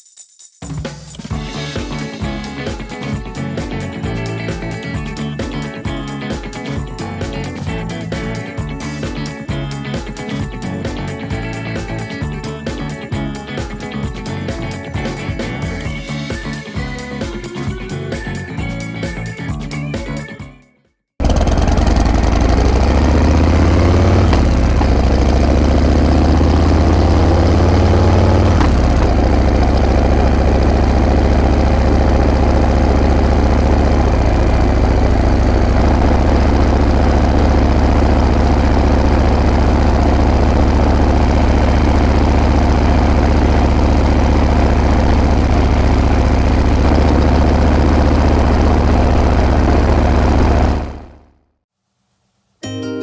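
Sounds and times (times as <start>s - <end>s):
motorcycle engine running: 1.3s - 19.8s, 21.2s - 51.4s.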